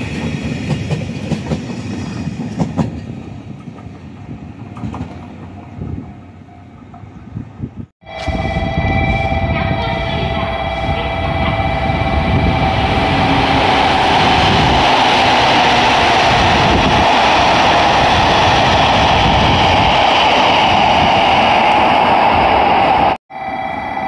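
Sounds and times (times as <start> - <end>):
electric train passing at speed: 0.0 - 24.0
wheels rushing on rails: 0.0 - 24.0.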